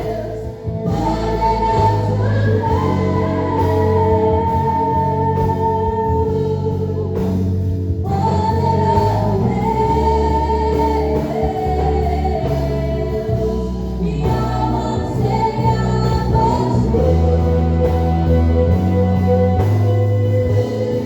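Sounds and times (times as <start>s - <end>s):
band accompaniment: 0.0s - 21.0s
gospel singing: 0.0s - 21.0s.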